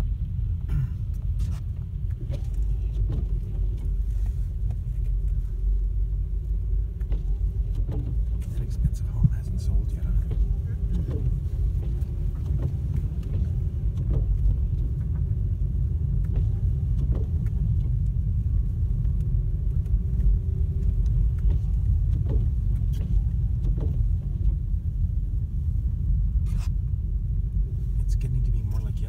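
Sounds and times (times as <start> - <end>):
car engine and tyres rumbling: 0.0 - 29.0
light clicks and knocks: 0.6 - 25.0.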